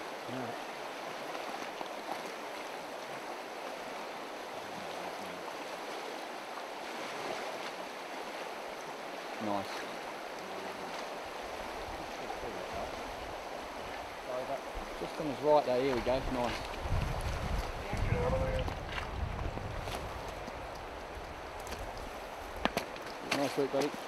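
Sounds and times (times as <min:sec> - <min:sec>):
river flowing over gravel: 0:00.0 - 0:24.0.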